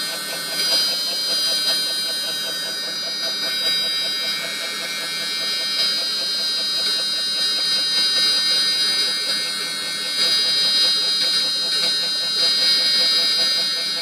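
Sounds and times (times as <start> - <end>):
router spindle high-pitched whine: 0.0 - 14.0.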